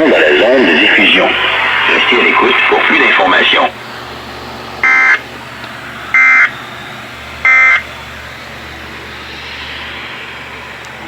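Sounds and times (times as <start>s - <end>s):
radio hiss: 0.0s - 11.0s
buzzing digital data screech: 0.9s - 11.0s.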